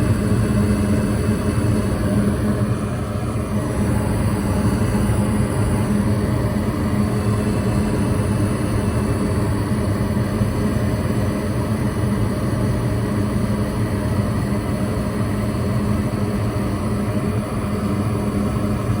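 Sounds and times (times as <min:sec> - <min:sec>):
furnace fan motor humming: 0:00.0 - 0:19.0.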